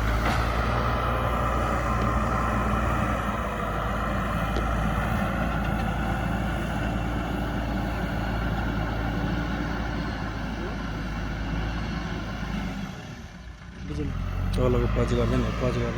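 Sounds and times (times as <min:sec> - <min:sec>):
diesel engine running steadily: 0:00.0 - 0:15.9.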